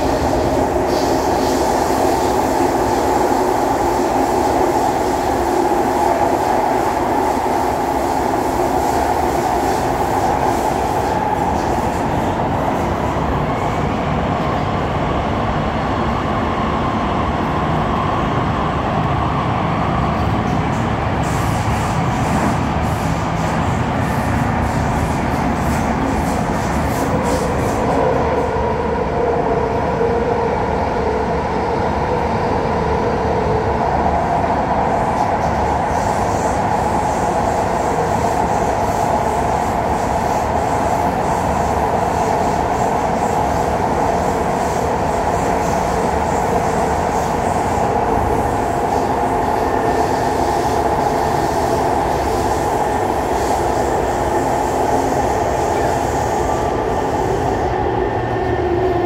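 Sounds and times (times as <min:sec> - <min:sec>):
train hum: 0:00.0 - 0:59.0
train wheels rumbling on rail: 0:00.0 - 0:59.0.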